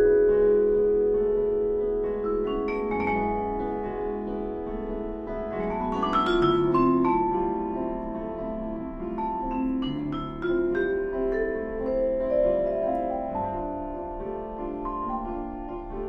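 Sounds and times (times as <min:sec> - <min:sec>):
slow instrumental music: 0:00.0 - 0:16.0.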